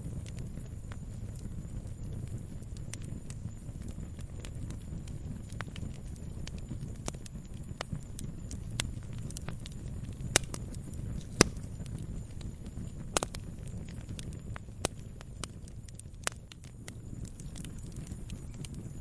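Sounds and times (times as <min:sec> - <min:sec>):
campfire crackling and popping: 0:00.0 - 0:19.0
low rumble of burning: 0:00.0 - 0:19.0.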